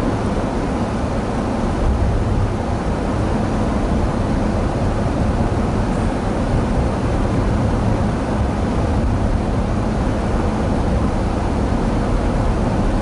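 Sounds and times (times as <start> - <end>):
tyres and engine rumble in car: 0.0 - 13.0.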